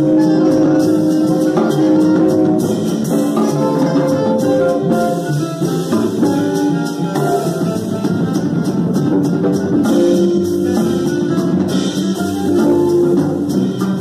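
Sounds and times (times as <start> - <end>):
alto saxophone melody: 0.0 - 14.0
drum kit with cymbals: 0.0 - 14.0
upright bass: 0.0 - 14.0.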